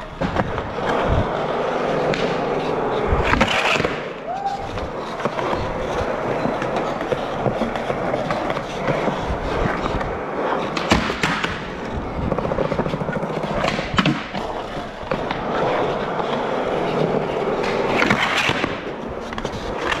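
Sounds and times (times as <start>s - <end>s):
skateboard clacking: 0.0s - 20.0s
skateboard wheels rolling: 0.0s - 20.0s.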